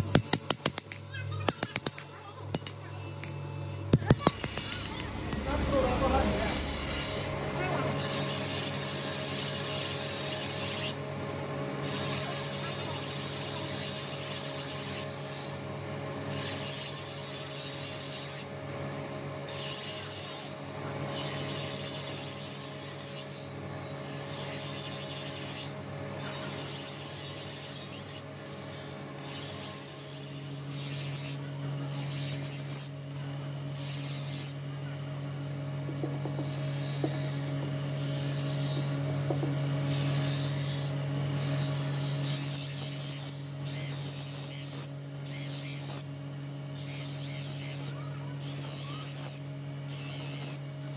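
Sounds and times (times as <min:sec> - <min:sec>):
grinding wheel hum: 0:00.0 - 0:50.9
blade grinding on wheel: 0:01.5 - 0:11.0, 0:11.8 - 0:15.6, 0:16.2 - 0:18.5, 0:19.4 - 0:32.9, 0:33.7 - 0:34.6, 0:36.2 - 0:39.1, 0:39.8 - 0:46.1, 0:46.7 - 0:50.9.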